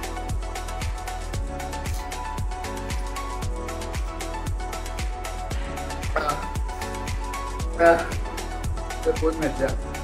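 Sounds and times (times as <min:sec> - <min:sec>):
music with deep thumping beat: 0:00.0 - 0:10.0.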